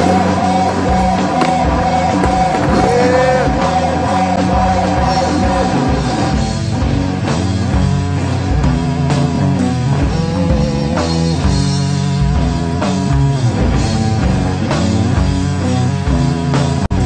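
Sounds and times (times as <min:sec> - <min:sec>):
rock music: 0:00.0 - 0:17.0.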